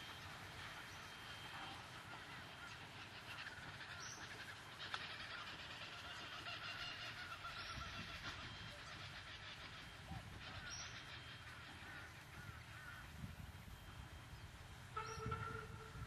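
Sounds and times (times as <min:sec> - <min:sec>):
faint honking bird calls: 0:00.0 - 0:16.0.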